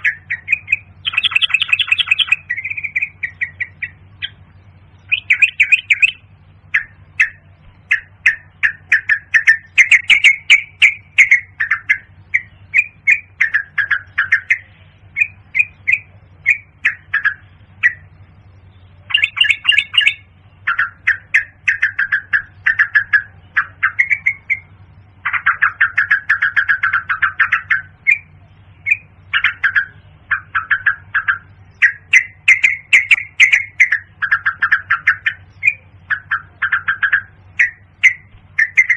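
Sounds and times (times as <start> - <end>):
bird calling sharp notes: 0.0 - 38.9.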